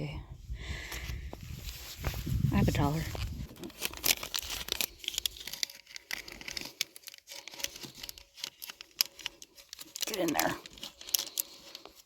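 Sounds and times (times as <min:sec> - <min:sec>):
paper money crinkling: 0:01.6 - 0:12.0.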